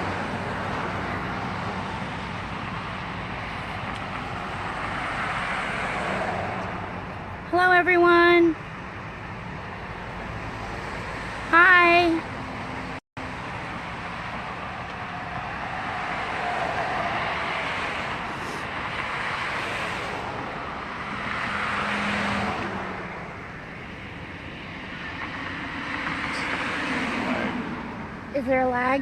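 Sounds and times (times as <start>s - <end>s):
cars passing by: 0.0s - 29.0s.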